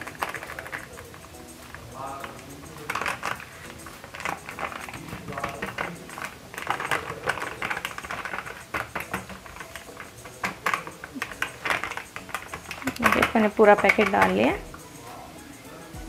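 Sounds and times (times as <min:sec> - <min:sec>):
plastic packet crinkling: 0:00.0 - 0:14.5.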